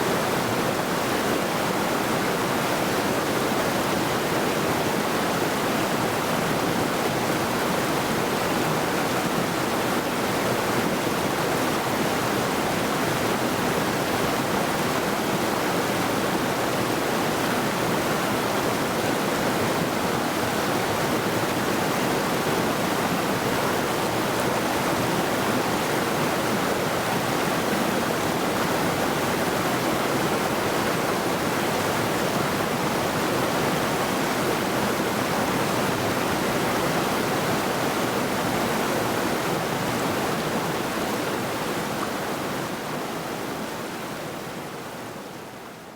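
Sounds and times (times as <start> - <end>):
river rushing over rocks: 0.0 - 45.7.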